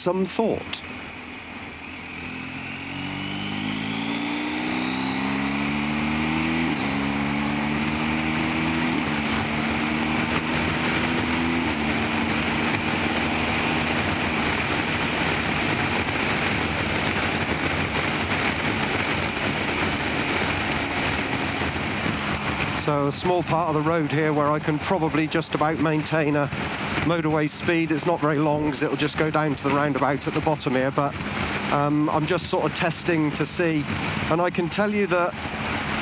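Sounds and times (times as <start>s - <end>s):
motorcycle engine accelerating: 0.0s - 36.0s
wind rush: 2.4s - 36.0s.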